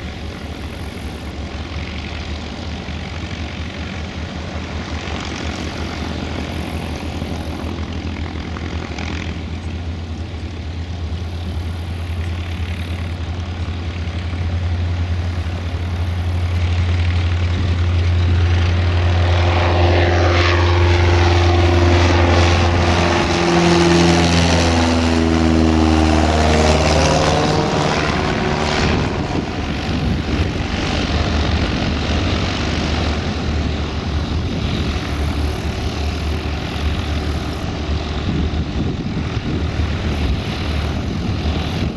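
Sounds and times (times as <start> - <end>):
propeller plane engine drone: 0.0 - 41.9.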